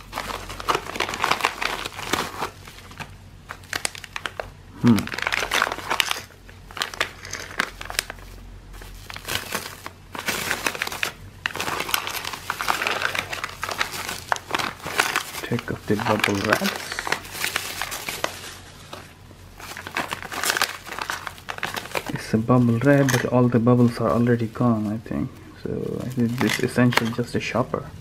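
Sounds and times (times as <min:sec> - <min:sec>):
plastic packaging crinkling: 0:00.0 - 0:27.6.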